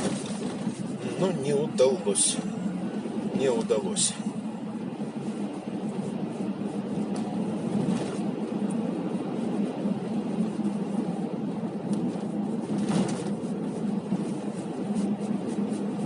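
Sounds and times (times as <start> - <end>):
car road and tyre noise: 0.0 - 16.0.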